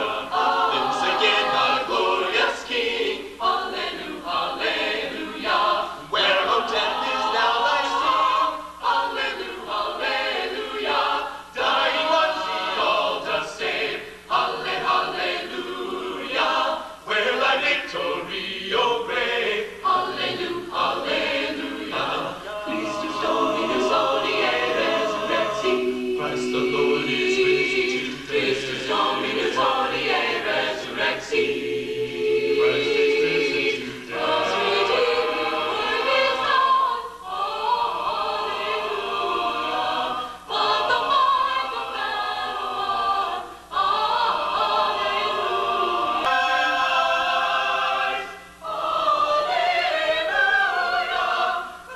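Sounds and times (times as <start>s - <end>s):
choir singing a cappella: 0.0s - 51.9s.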